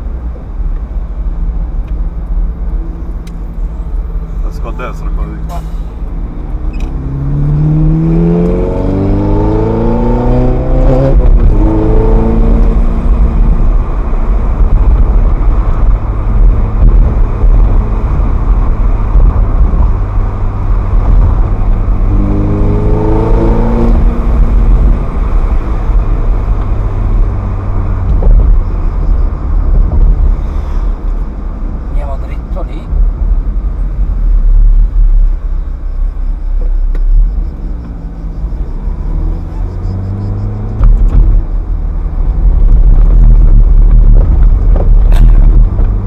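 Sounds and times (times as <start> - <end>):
road rumble: 0.0 - 46.0
sports car engine accelerating: 1.6 - 46.0.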